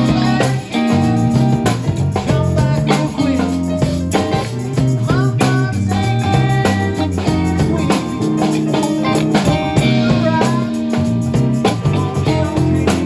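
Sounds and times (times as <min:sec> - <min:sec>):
electric guitar playing: 0:00.0 - 0:13.0
steady drum beat: 0:00.0 - 0:13.0.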